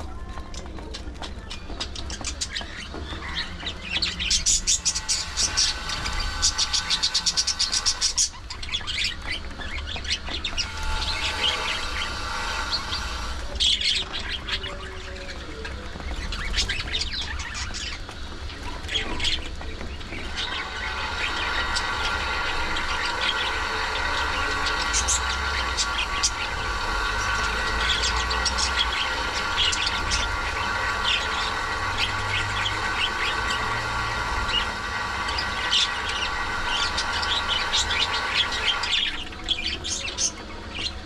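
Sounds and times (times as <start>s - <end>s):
budgerigars chirping and chattering: 0.0s - 41.0s
steady low hum: 0.0s - 41.0s.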